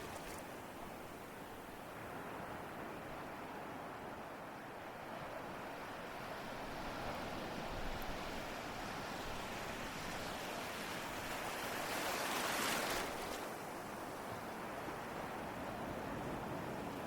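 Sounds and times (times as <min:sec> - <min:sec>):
ocean surf washing: 0:00.0 - 0:03.0, 0:04.9 - 0:17.0.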